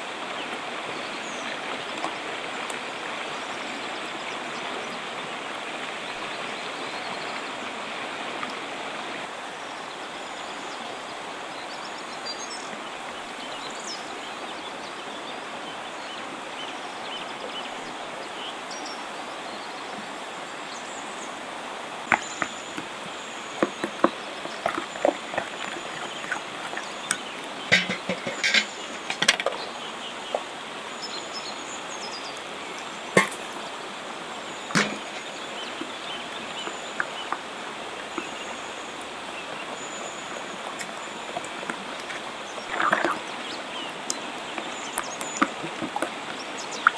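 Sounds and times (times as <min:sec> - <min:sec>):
river rushing: 0:00.0 - 0:46.9.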